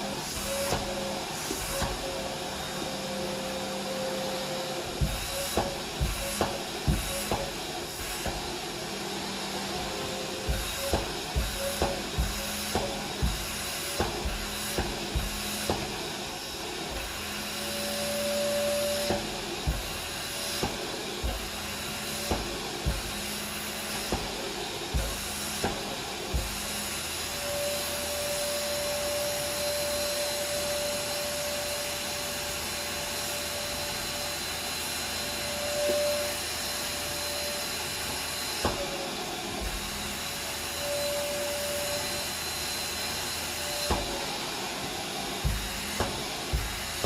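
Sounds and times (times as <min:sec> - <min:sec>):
vacuum cleaner running: 0:00.0 - 0:47.0.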